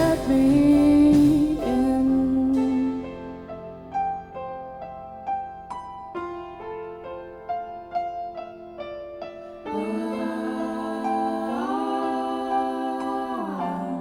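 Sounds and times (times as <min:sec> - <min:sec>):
piano playing slow melody: 0:00.0 - 0:14.0.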